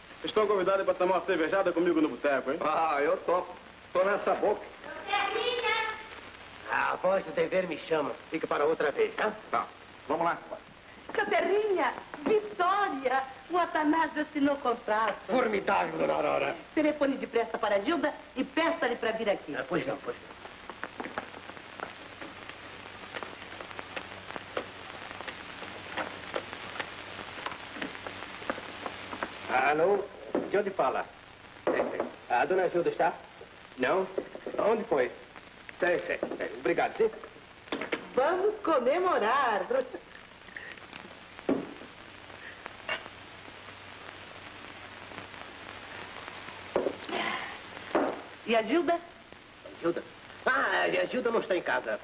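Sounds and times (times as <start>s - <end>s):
sharp crackles: 0.0s - 52.0s
steady hiss: 0.0s - 52.0s.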